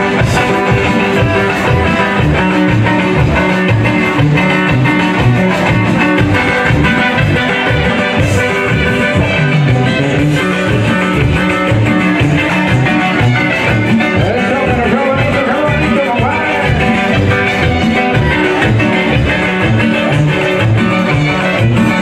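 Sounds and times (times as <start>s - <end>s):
bouncing bass line: 0.0s - 22.0s
guitar: 0.0s - 22.0s
live band through pa: 0.0s - 22.0s.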